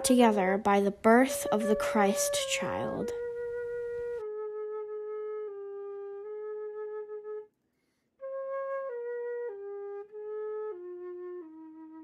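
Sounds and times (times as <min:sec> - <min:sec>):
solo flute melody: 0:01.2 - 0:07.5, 0:08.2 - 0:12.0.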